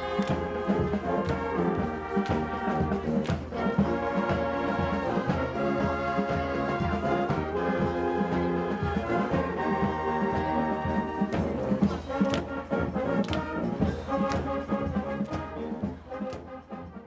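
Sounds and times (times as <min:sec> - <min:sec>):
brass playing held chords: 0:00.0 - 0:17.0
steady drum beat: 0:00.0 - 0:17.0.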